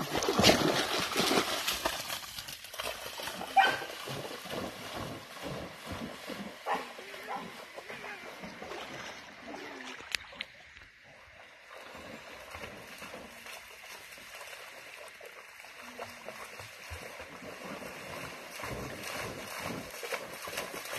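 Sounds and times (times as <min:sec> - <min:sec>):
dog splashing through water: 0:00.0 - 0:10.0, 0:11.7 - 0:20.9
flowing water: 0:00.0 - 0:20.9.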